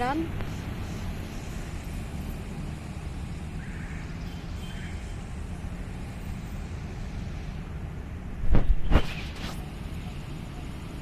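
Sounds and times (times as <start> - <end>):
diesel locomotive engine rumbling: 0.0 - 8.5, 9.5 - 11.0.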